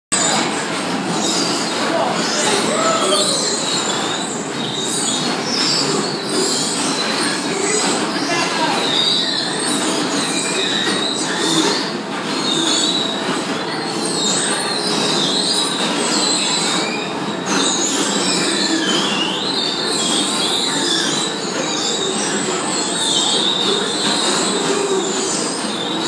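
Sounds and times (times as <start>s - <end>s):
bumper cars din: 0.2s - 26.0s
high squeals: 0.2s - 26.0s.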